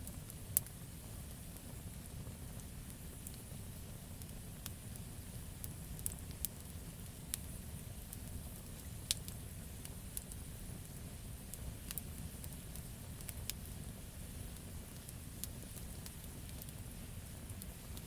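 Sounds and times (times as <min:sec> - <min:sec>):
campfire crackling and popping: 0:00.0 - 0:18.0
low rumble and hiss of flames: 0:00.0 - 0:18.0.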